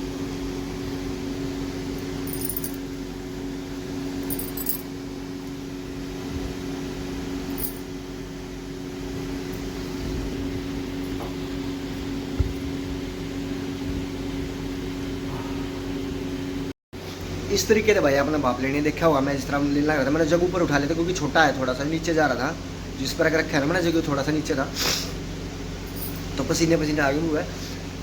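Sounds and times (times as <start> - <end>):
electric fan motor humming: 0.0 - 28.0.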